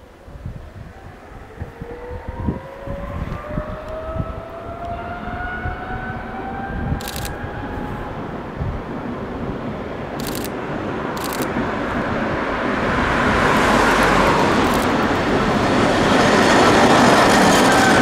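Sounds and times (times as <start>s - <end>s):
tram rumbling on track: 0.0s - 18.0s
car passing: 0.9s - 18.0s.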